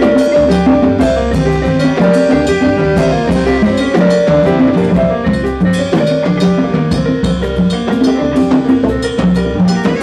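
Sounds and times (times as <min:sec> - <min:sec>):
drum kit: 0:00.0 - 0:10.0
piano: 0:00.0 - 0:10.0.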